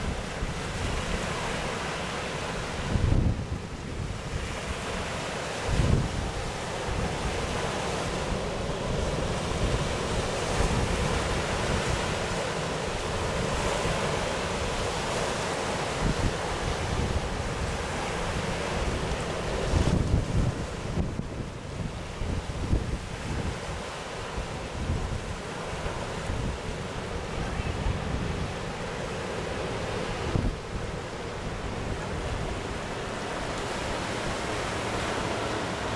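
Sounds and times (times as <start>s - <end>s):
wind buffeting microphone: 2.7s - 15.2s, 15.9s - 35.2s.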